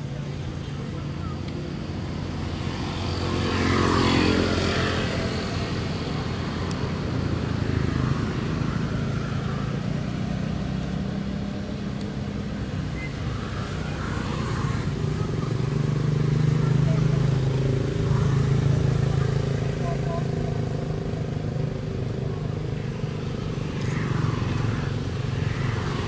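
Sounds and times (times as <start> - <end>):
steady engine hum: 0.0 - 26.0.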